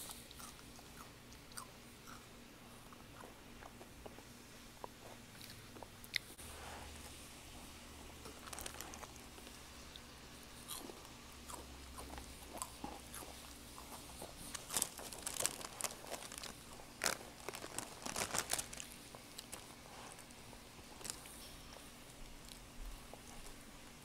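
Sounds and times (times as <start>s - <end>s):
crispy treat crackling and crunching: 0.0s - 23.8s.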